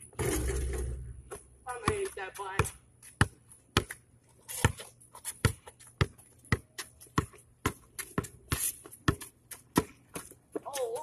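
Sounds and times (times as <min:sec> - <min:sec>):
basketball bouncing on pavement: 0:00.0 - 0:11.0.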